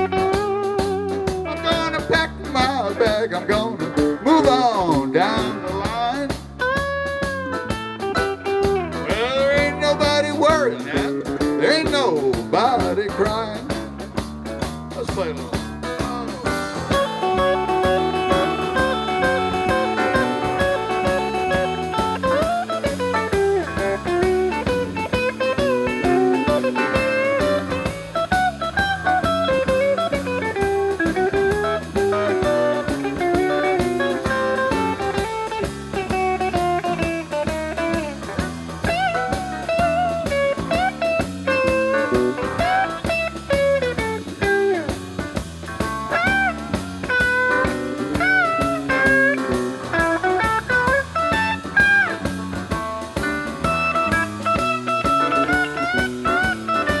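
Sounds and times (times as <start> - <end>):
electric blues band playing: 0.0 - 57.0
electric guitar lead: 0.0 - 57.0.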